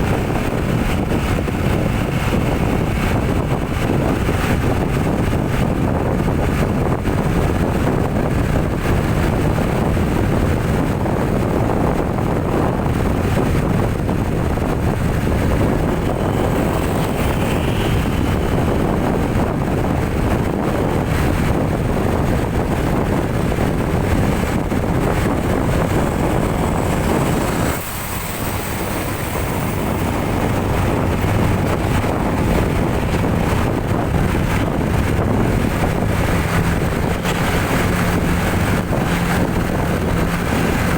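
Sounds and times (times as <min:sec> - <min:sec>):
vehicle engine and road noise: 0:00.0 - 0:40.9
wind buffeting microphone: 0:00.0 - 0:40.9.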